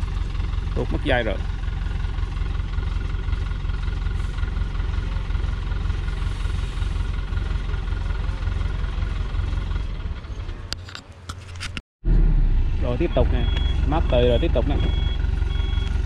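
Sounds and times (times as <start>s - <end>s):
diesel truck engine rumbling: 0.0s - 11.3s, 12.0s - 16.0s.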